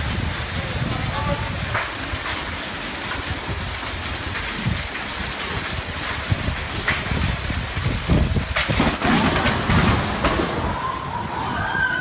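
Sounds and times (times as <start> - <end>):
hailstones clicking: 0.0 - 12.0
heavy hail and rain: 0.0 - 12.0
wind rumbling on microphone: 0.0 - 12.0.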